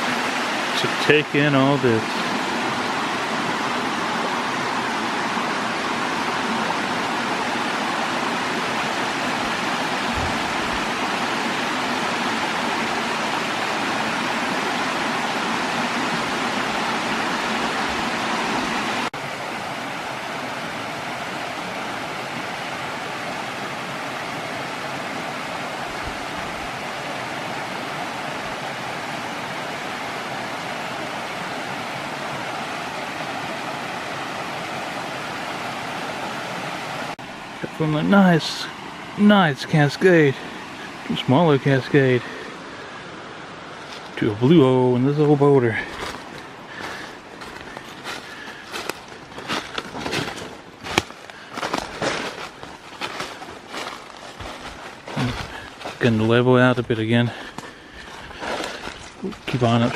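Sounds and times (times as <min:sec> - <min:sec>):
water rushing over rock: 0:00.0 - 0:42.3, 0:43.7 - 0:59.9.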